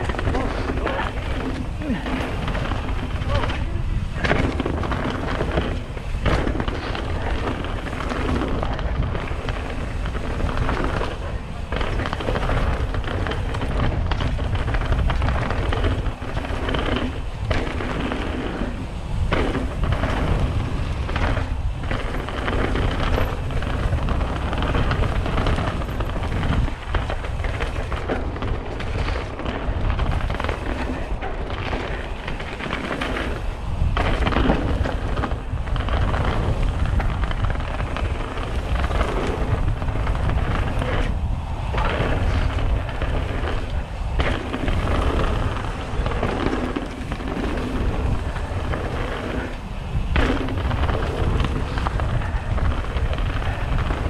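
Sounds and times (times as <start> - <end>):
bike knocking and rattling: 0.0 - 54.0
tyres crunching over gravel: 0.0 - 54.0
wind rumble on microphone: 0.0 - 54.0.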